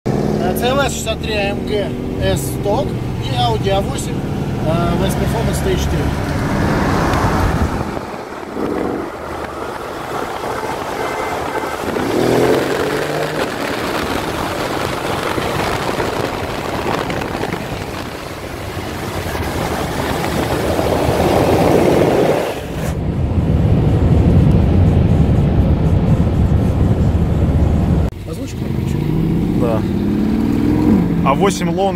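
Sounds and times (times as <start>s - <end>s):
car engine accelerating: 0.1s - 31.9s
road and wind noise: 0.1s - 31.9s.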